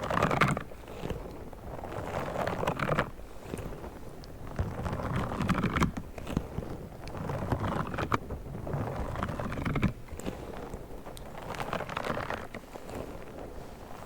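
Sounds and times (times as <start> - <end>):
crackly clicks and rustles: 0.0 - 14.0.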